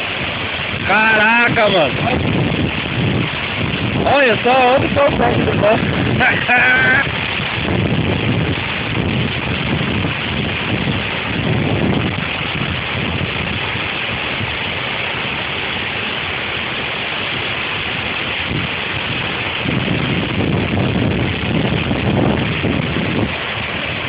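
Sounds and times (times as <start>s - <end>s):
waterfall rushing: 0.0s - 24.0s
wind rumble on microphone: 0.0s - 24.0s.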